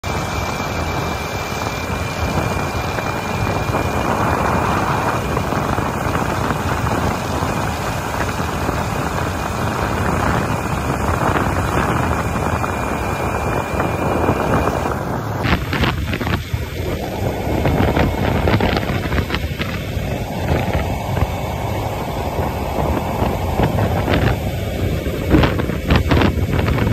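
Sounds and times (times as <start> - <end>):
motorcycle running: 0.0 - 26.9
wind buffeting microphone: 0.0 - 26.9.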